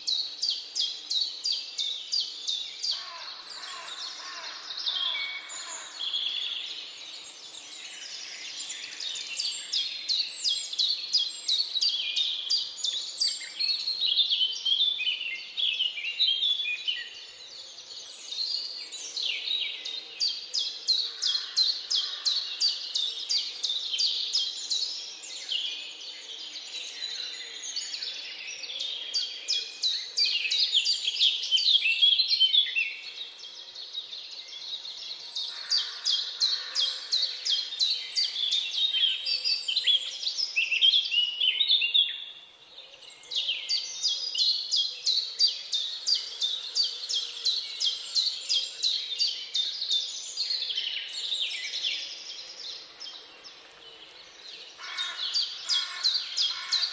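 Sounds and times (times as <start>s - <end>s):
songbirds chirping and trilling: 0.0s - 56.9s.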